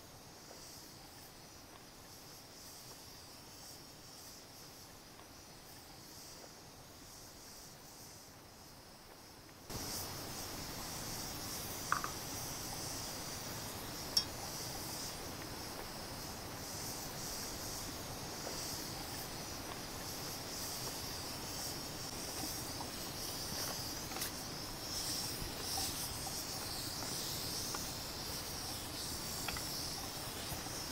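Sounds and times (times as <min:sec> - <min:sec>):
wood fire hissing and crackling: 0:00.0 - 0:30.9.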